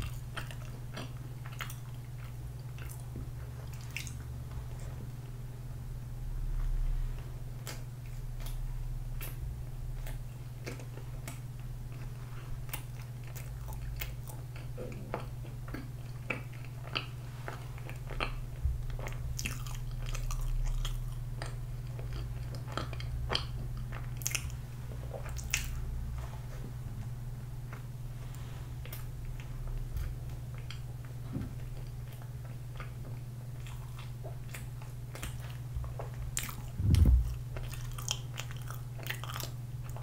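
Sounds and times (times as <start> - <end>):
chewing soft bread: 0.0 - 40.0
steady low hum: 0.0 - 40.0.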